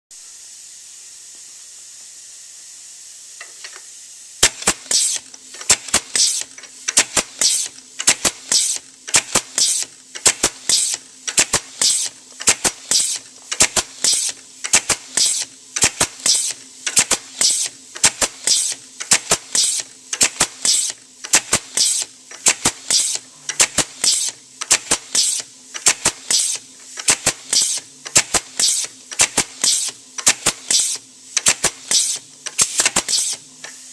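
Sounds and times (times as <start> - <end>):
air hiss: 4.4 - 33.9
short air-exhaust bursts: 4.4 - 33.9.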